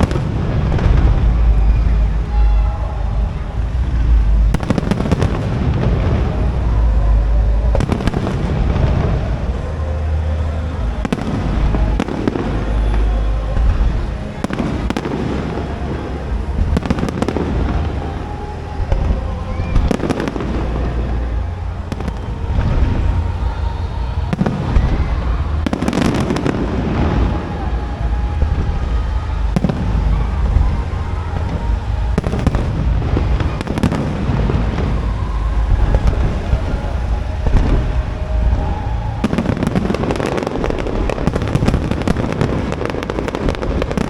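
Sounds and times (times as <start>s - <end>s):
low booming rumble: 0.0s - 44.0s.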